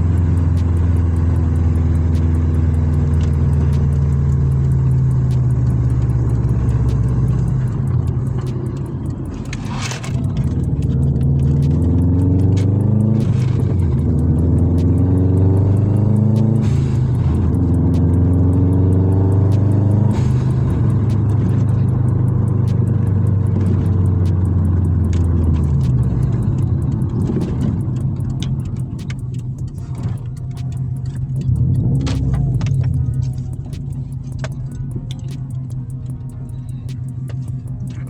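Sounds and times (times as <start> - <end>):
car exhaust droning: 0.0 - 38.0.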